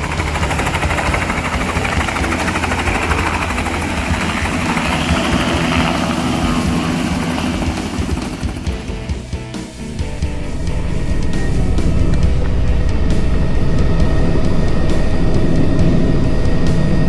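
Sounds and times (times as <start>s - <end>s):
helicopter rotor chop: 0.0s - 17.0s.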